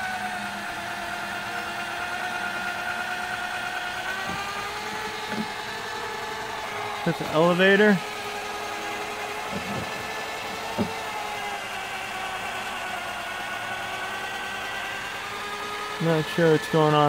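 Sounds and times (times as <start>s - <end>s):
ball launcher motors humming: 0.0s - 17.0s.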